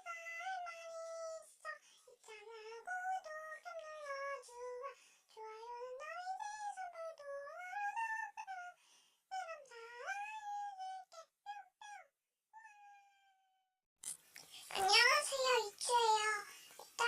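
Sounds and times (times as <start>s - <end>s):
person singing wordless melody: 0.0s - 12.0s, 14.7s - 17.0s.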